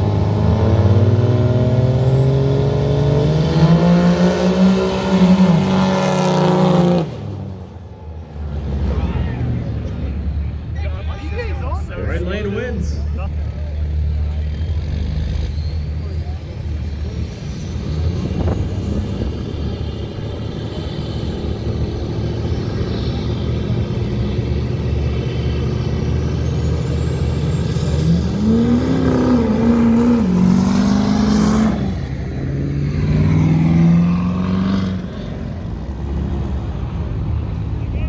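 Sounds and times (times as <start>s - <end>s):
truck engines rumbling and revving: 0.0s - 38.0s.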